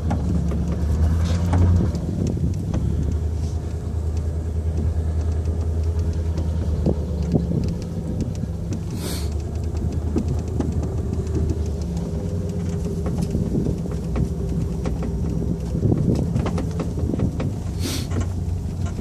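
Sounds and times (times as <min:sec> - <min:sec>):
light clicks and rustles: 0:00.0 - 0:19.0
vehicle engine idling: 0:00.0 - 0:19.0.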